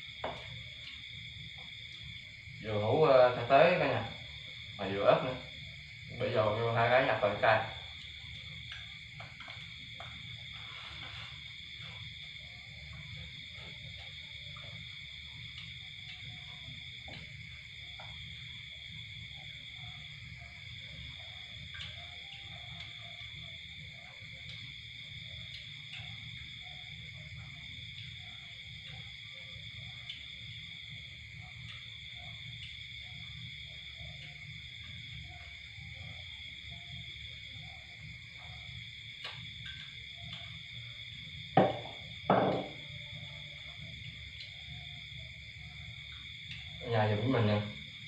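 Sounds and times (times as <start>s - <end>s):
insects trilling: 0.0s - 48.0s.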